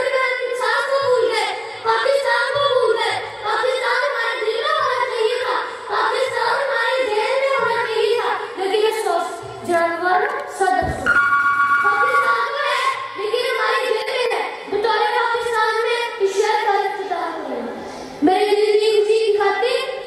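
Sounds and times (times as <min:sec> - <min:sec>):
child singing: 0:00.0 - 0:11.1, 0:11.8 - 0:20.0.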